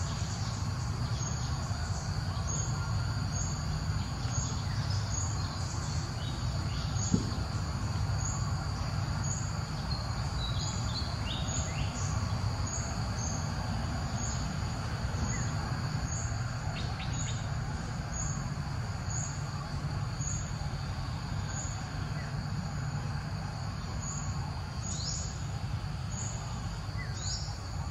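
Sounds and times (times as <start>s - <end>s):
high insect drone: 0.0s - 27.9s.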